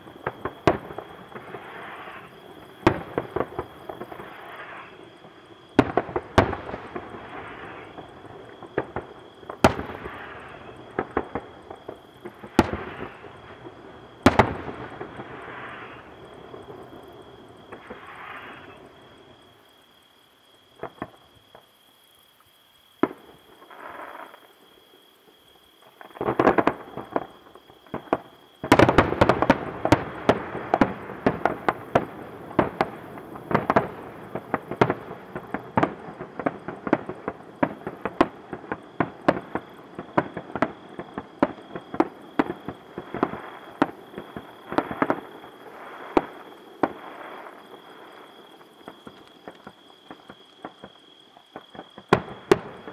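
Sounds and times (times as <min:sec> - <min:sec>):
fireworks bursting: 0:00.0 - 0:05.1, 0:05.8 - 0:18.9, 0:25.9 - 0:52.9
fireworks barrage of bangs and crackling: 0:00.0 - 0:19.3, 0:23.0 - 0:24.6, 0:25.8 - 0:52.9.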